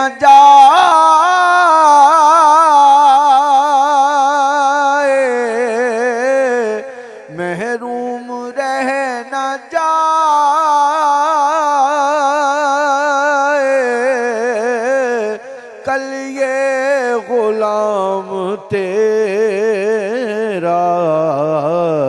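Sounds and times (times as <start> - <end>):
man singing: 0.0 - 22.0.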